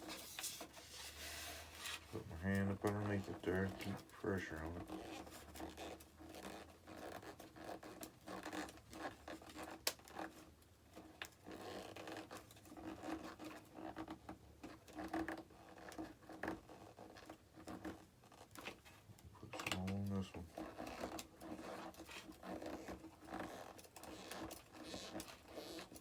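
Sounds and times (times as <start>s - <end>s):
screw scratching and creaking: 0.0s - 10.4s, 14.9s - 26.0s.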